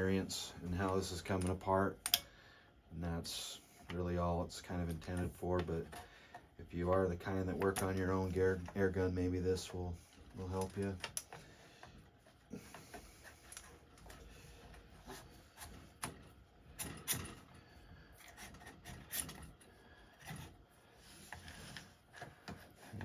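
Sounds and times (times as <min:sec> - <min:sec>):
air rifle parts clicking and rubbing: 0:03.8 - 0:23.0.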